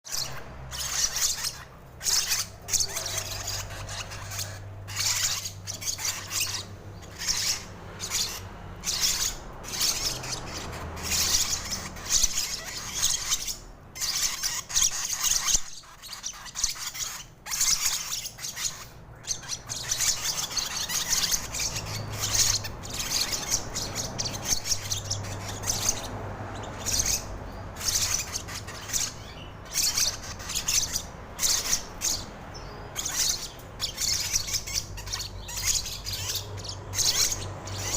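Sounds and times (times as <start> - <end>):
bird raspy squawks: 0.1 - 37.9.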